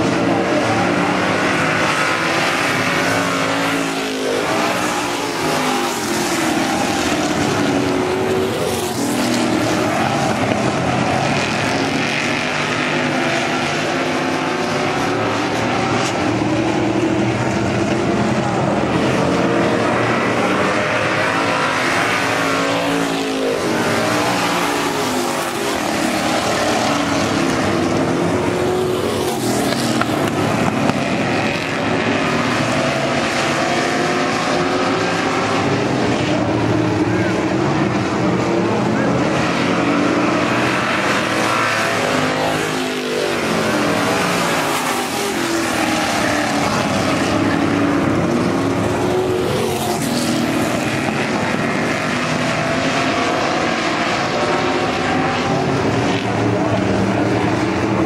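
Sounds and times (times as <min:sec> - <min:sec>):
stock car engines racing: 0:00.0 - 0:58.0.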